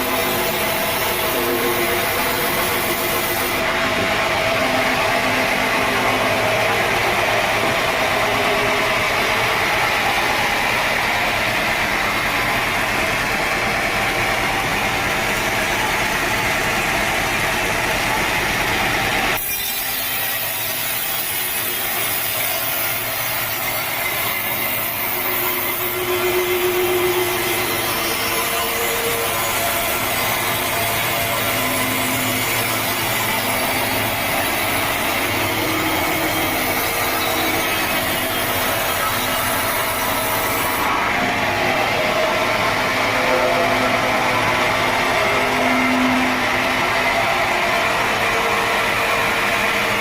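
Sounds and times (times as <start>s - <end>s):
sawmill saw cutting log: 0.0s - 50.0s.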